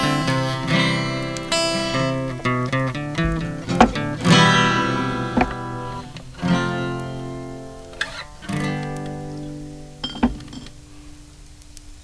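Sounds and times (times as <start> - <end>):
acoustic guitar strumming: 0.0 - 10.8.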